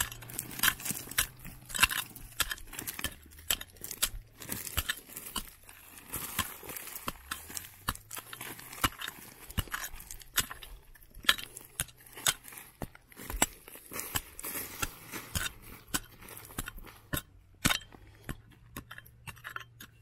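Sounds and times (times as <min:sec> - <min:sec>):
digging tool striking stone: 0:00.0 - 0:20.0.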